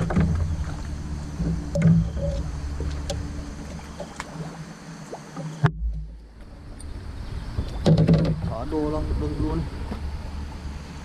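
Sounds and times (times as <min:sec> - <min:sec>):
water rumbling against a boat: 0:00.0 - 0:11.0.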